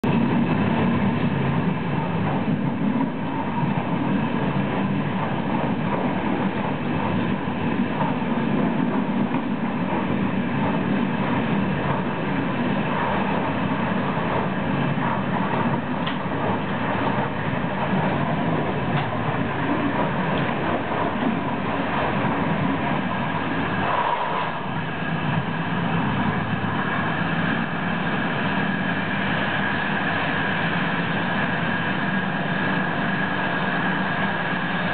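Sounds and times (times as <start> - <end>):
faint steady whine: 0.0 - 34.9
train rumbling on rails: 0.0 - 34.9.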